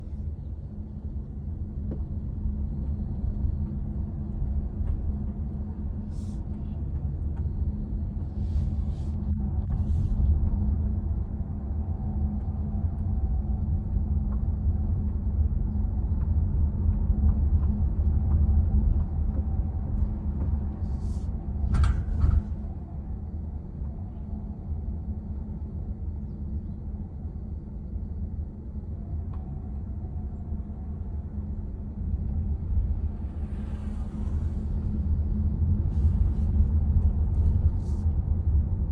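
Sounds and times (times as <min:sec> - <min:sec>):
car cabin low rumble: 0:00.0 - 0:25.9, 0:28.2 - 0:38.9.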